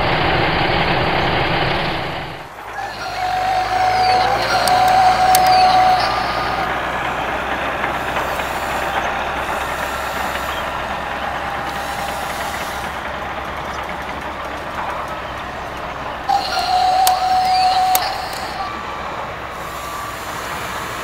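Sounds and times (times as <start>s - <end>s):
toy excavator motors whirring: 2.5s - 21.0s.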